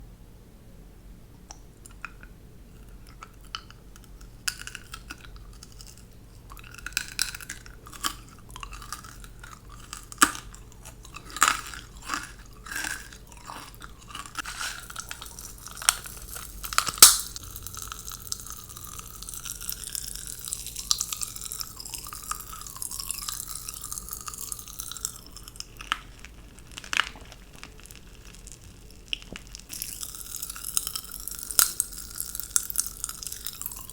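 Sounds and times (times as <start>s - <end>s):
candy crunching and chewing: 1.8s - 33.9s
sharp candy cracks: 3.0s - 33.9s.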